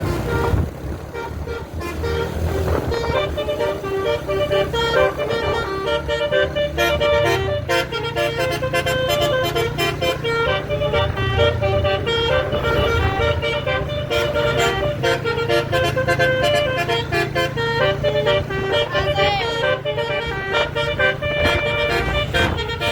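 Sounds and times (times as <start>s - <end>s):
multi-tone bus horn melody: 0.0s - 22.9s.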